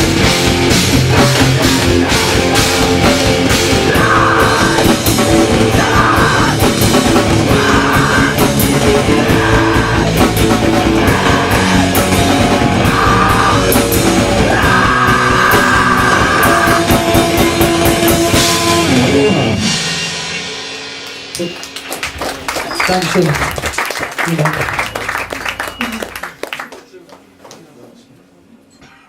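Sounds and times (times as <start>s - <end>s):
bass guitar: 0.0s - 23.8s, 24.4s - 26.5s
distorted guitars: 0.0s - 23.8s
drums: 0.0s - 27.6s.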